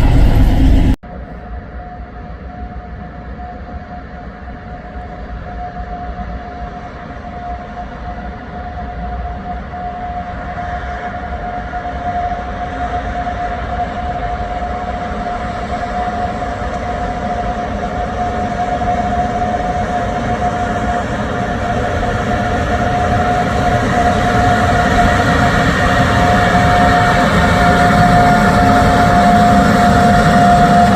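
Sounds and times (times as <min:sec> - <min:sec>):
steady high whine: 0:00.0 - 0:30.9
train approaching: 0:00.0 - 0:30.9.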